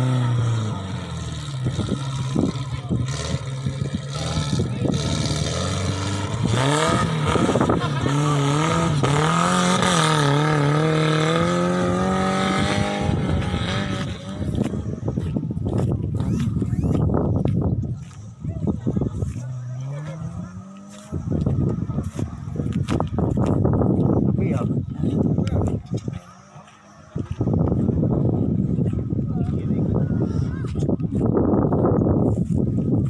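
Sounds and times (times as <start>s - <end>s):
off-road engine revving: 0.0s - 33.0s.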